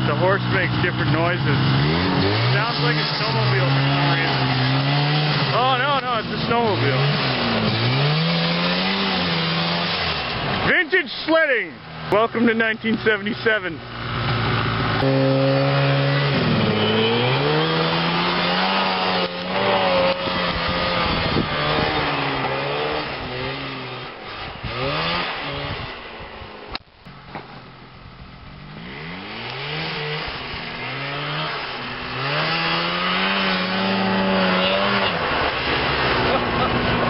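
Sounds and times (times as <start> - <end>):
snowmobile engine revving: 0.0 - 26.8, 28.4 - 37.0.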